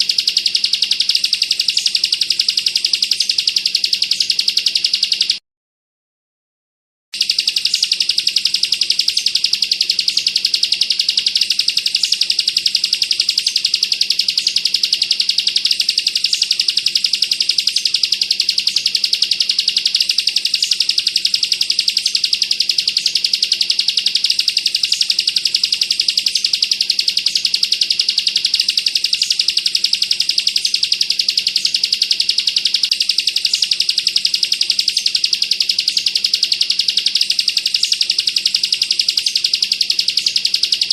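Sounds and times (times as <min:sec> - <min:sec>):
bird singing rapid trill: 0:00.0 - 0:05.4, 0:07.2 - 0:40.9.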